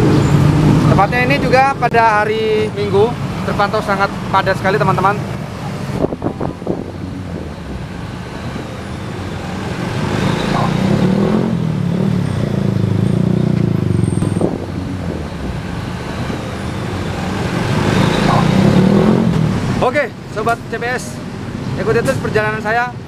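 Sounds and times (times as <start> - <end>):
motor scooters passing: 0.0 - 19.9
cars and trucks passing: 0.0 - 23.0.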